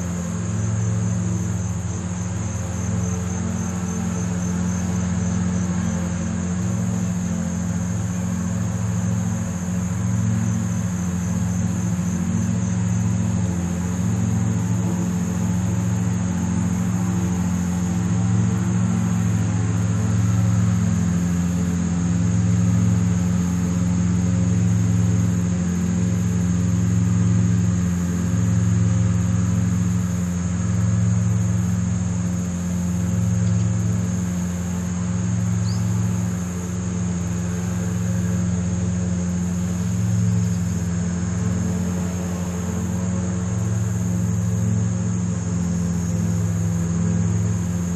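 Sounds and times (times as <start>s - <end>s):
high insect chorus: 0.0s - 47.9s
low mechanical hum: 0.0s - 47.9s.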